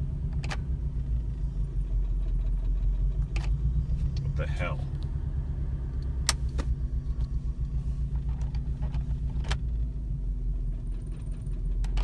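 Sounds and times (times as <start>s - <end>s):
car engine idling roughly: 0.0s - 12.0s.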